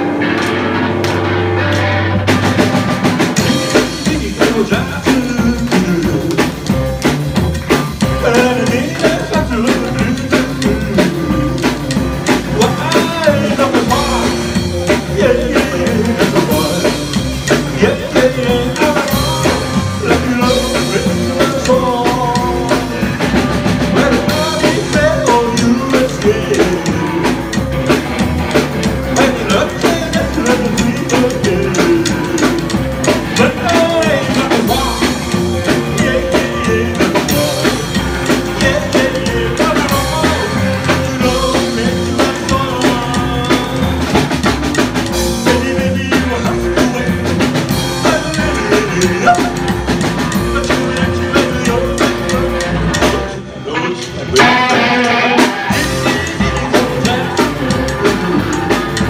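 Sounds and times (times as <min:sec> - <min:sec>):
drum kit beat: 0:00.0 - 0:59.0
electric guitar: 0:00.0 - 0:59.0
upright bass: 0:00.0 - 0:59.0
man singing into a microphone: 0:03.4 - 0:06.8, 0:08.0 - 0:27.7, 0:29.1 - 0:44.4, 0:45.1 - 0:59.0.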